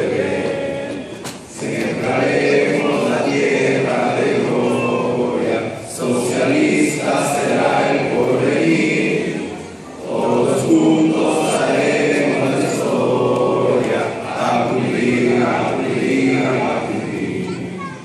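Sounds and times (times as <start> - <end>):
young men singing in unison: 0.0 - 17.6.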